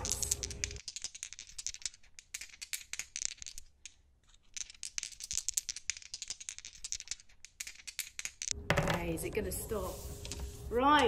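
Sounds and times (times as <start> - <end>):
dice rattling and clattering: 0.0 - 9.0.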